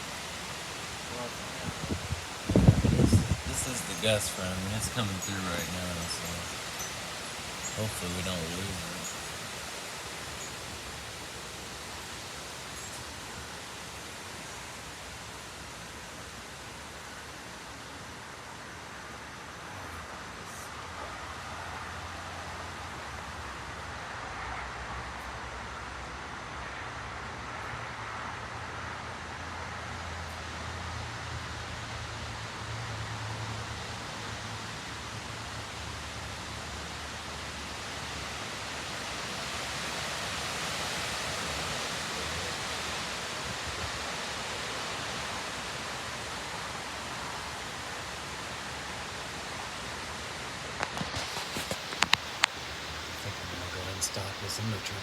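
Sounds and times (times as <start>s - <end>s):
wind roaring through treetops: 0.0s - 55.0s.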